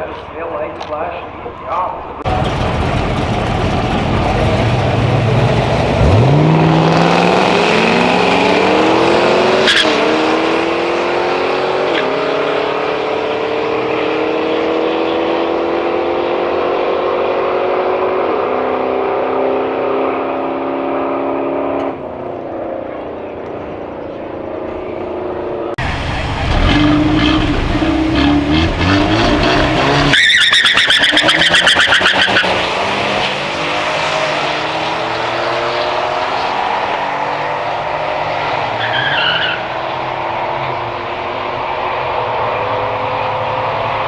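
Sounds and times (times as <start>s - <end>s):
car engine at full throttle: 2.0s - 44.0s.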